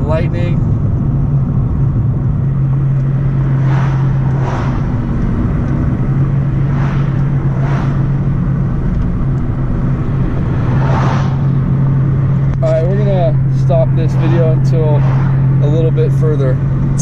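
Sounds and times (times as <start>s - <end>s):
car interior engine and road drone: 0.0s - 17.0s
passing traffic whooshes: 0.0s - 17.0s.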